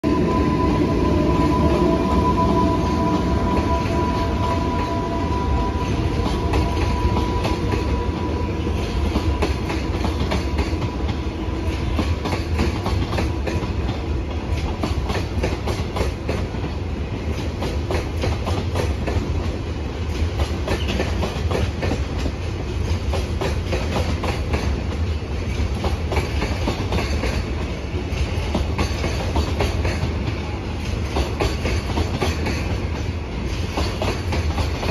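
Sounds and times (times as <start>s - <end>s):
train wheels clattering: 2.3s - 34.9s.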